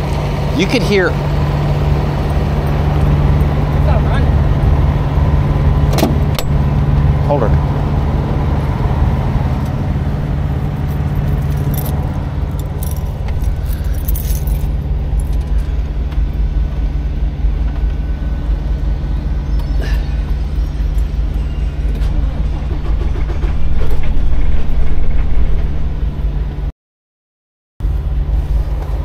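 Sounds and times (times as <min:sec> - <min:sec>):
truck engine idling: 0:00.0 - 0:26.6.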